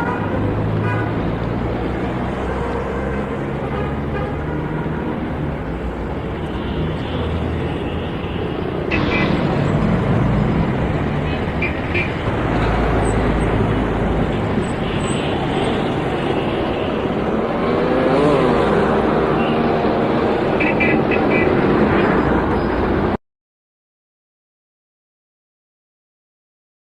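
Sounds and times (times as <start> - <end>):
traffic engines rumbling: 0.0 - 23.2.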